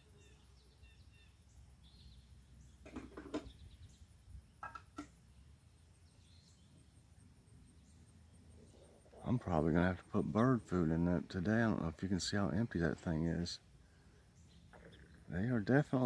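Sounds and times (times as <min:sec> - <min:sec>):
sharp bird calls: 0:00.0 - 0:11.9, 0:12.5 - 0:16.0
low outdoor hum: 0:00.0 - 0:16.0
songbirds chirping: 0:00.0 - 0:16.0.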